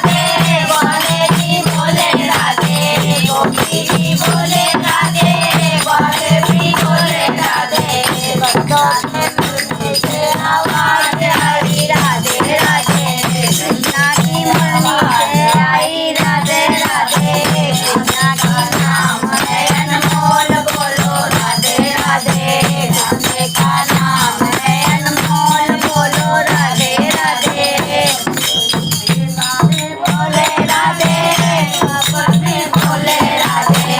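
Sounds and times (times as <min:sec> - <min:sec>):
clicking hand percussion: 0:00.0 - 0:33.9
devotional folk song singing: 0:00.0 - 0:33.9.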